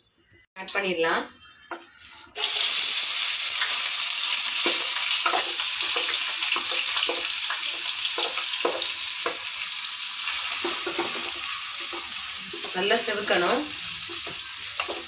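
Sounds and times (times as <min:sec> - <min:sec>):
onions sizzling in a frying pan: 0:02.0 - 0:15.0.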